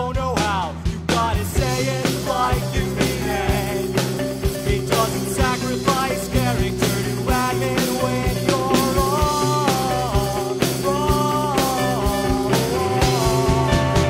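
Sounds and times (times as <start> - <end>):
drum kit beat: 0.0 - 14.0
rock band playing: 0.0 - 14.0.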